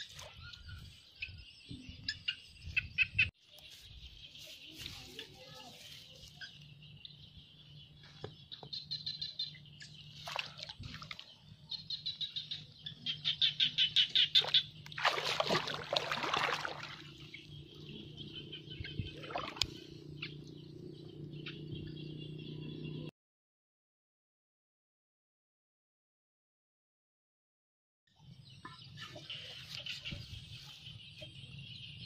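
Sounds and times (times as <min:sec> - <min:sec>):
birds chirping: 0:00.0 - 0:23.1, 0:28.2 - 0:32.0.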